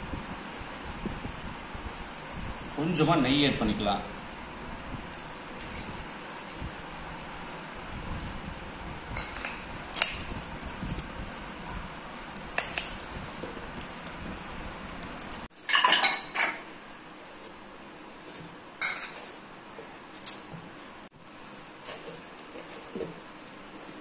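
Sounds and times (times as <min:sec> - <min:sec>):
dough kneaded by hand: 0:00.0 - 0:15.5, 0:16.7 - 0:24.0.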